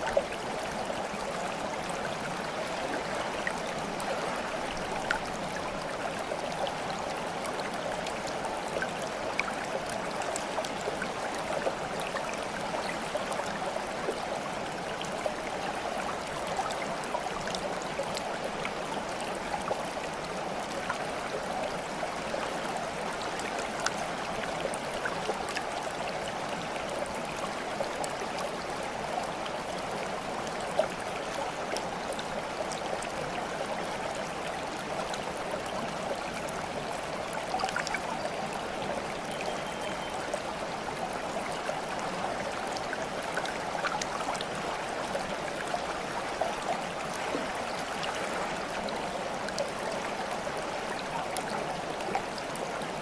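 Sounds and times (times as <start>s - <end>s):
small water drips and splashes: 0.0s - 53.0s
stream babbling: 0.0s - 53.0s.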